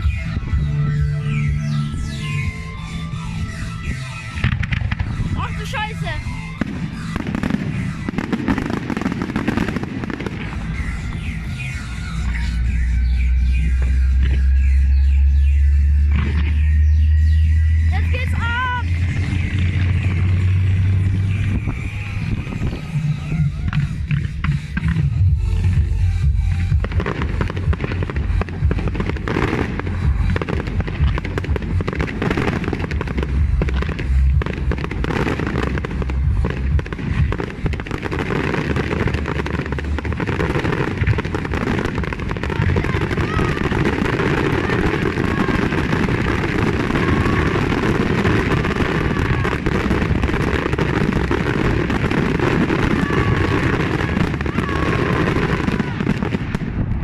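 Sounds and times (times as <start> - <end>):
fireworks bangs and crackle: 0.0 - 12.5, 15.5 - 57.0.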